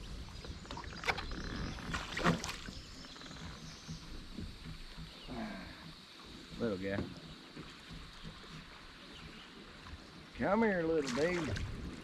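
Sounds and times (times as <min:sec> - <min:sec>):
water splashes: 0:00.1 - 0:12.0.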